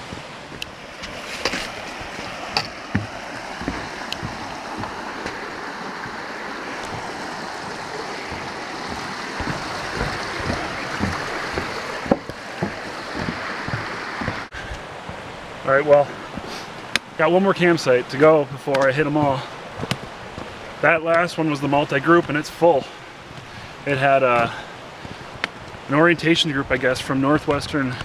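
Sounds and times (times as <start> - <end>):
footsteps on wooden bridge: 0.0 - 28.0
stream rushing: 0.0 - 28.0.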